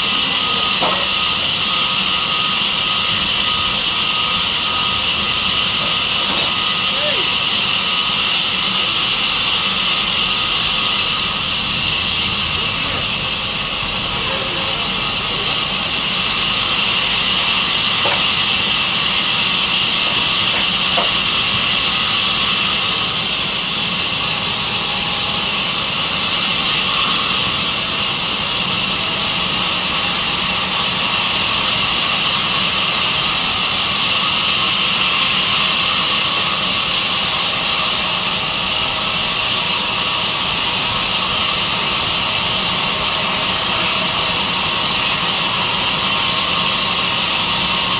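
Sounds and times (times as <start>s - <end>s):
sawmill saw high-pitched hiss: 0.0s - 47.9s.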